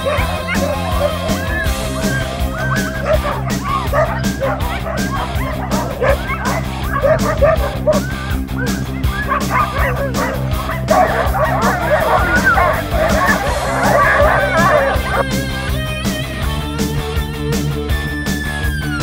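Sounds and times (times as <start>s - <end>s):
dogs barking and yipping: 0.0s - 15.4s
background music: 0.0s - 19.0s.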